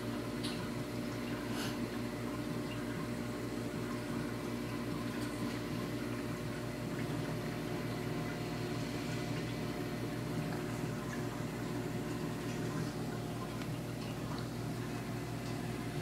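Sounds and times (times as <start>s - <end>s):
aquarium pumps humming: 0.0s - 16.0s
water bubbling and running: 0.0s - 16.0s.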